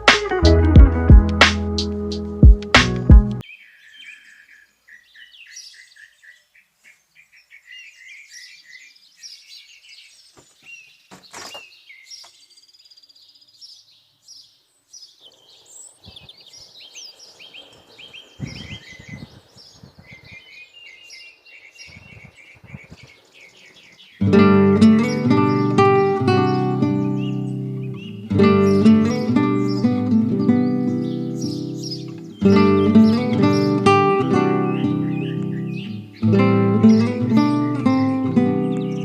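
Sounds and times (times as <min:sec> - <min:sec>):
small birds chirping and singing: 0:03.4 - 0:39.0.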